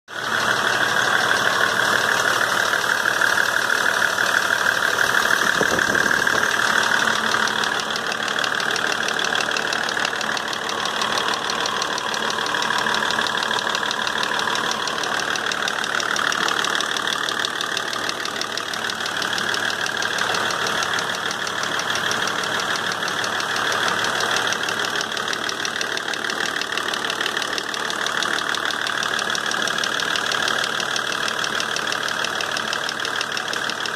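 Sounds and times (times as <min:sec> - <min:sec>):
engine running with rapid knock: 0:00.1 - 0:33.9.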